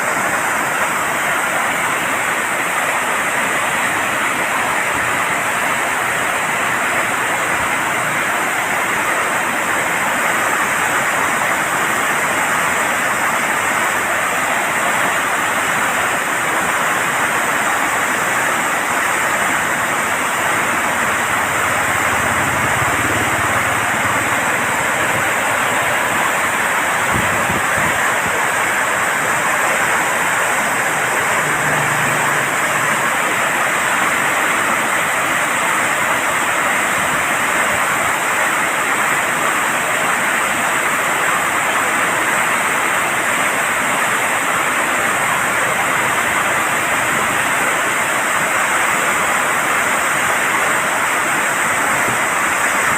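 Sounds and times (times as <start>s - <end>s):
floodwater rushing: 0.0s - 52.9s.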